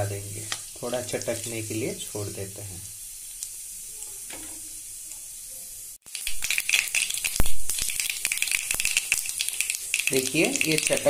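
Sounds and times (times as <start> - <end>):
seeds sizzling and popping in oil: 0.0 - 11.0.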